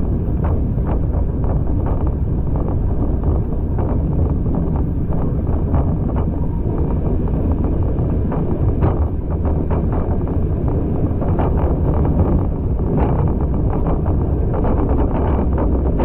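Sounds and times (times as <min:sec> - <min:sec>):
train rumble: 0:00.0 - 0:16.0
wind rush: 0:00.0 - 0:16.0.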